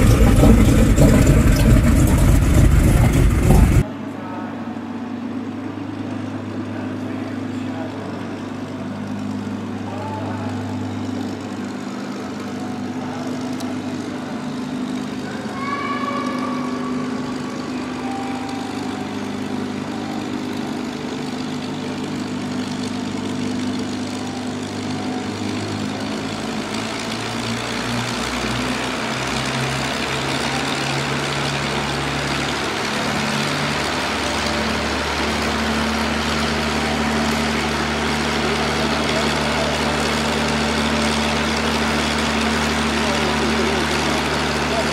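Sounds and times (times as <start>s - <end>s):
propeller plane engine idling: 0.0s - 3.9s, 4.8s - 44.9s.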